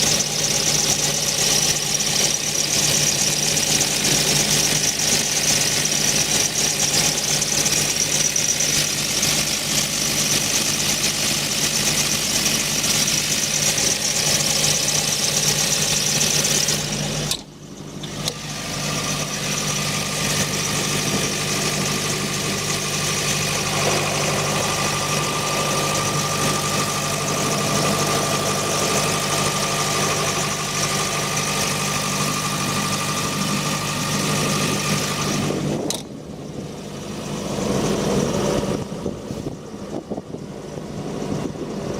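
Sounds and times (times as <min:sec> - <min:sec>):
diesel generator running: 0:00.0 - 0:41.9.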